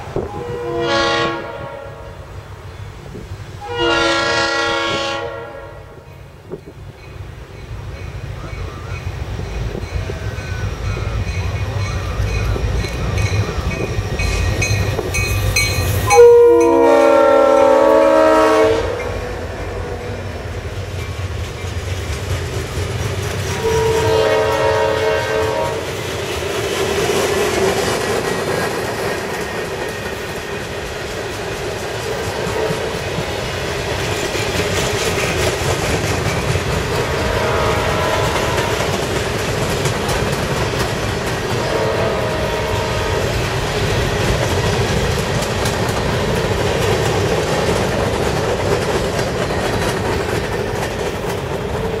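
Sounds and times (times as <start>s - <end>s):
train wheels clattering over rails: 6.1s - 16.2s, 20.5s - 52.0s.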